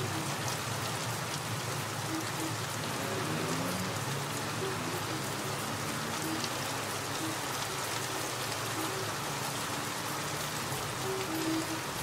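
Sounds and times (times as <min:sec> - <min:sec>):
steady rain patter: 0:00.0 - 0:12.0.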